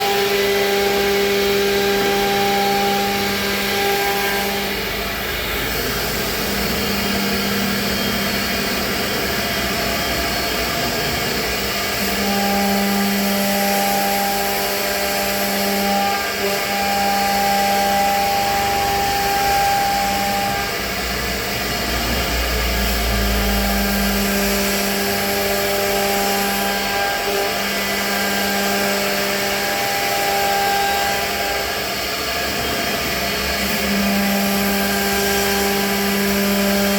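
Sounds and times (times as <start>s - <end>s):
router spindle cutting board: 0.0s - 36.9s.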